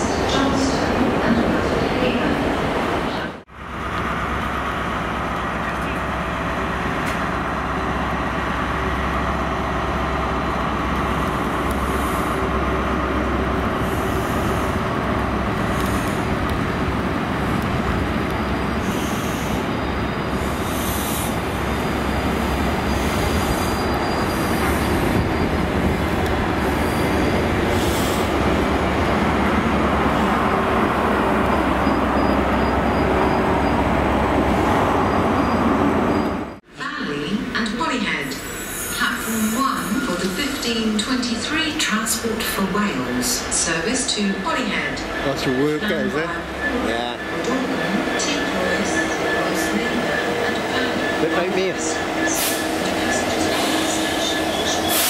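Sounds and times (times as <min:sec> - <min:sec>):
train wheels rumbling on rails: 0:00.0 - 0:36.6, 0:38.3 - 0:55.0.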